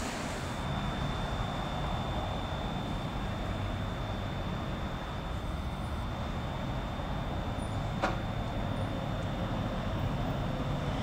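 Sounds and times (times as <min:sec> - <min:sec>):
distant electric train rumble: 0:00.0 - 0:11.0
faint high whine: 0:00.0 - 0:11.0.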